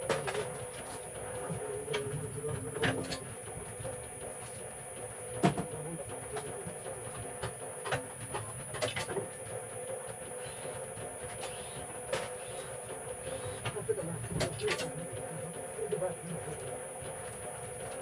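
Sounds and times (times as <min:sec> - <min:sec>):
wire stripping machine humming: 0:00.0 - 0:18.0.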